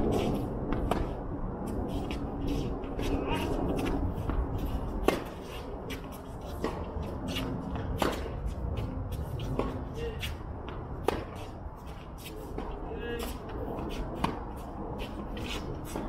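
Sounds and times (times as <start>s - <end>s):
racket hitting tennis ball: 0.0s - 1.2s, 1.9s - 16.0s.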